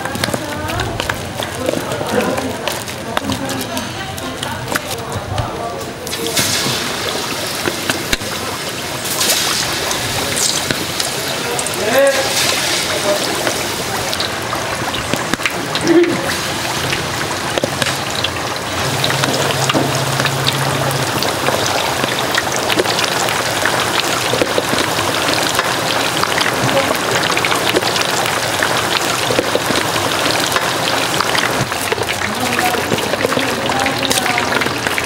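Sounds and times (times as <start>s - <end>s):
oil sizzling and crackling: 0.0s - 35.0s.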